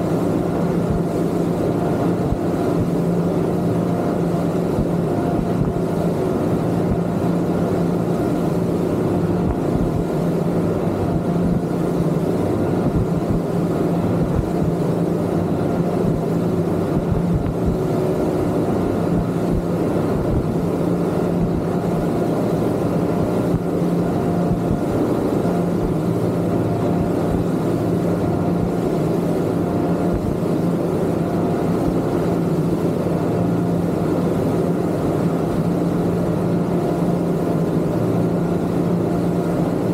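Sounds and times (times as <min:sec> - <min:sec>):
outboard motors droning: 0:00.0 - 0:39.9
water rushing: 0:00.0 - 0:39.9.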